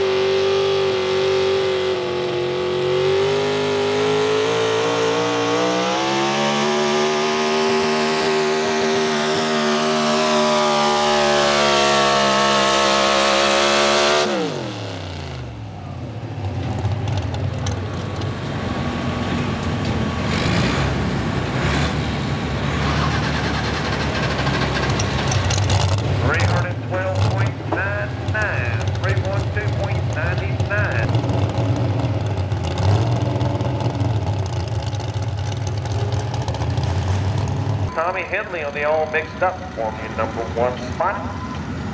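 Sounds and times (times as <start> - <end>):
truck engine revving under load: 0.0 - 37.9.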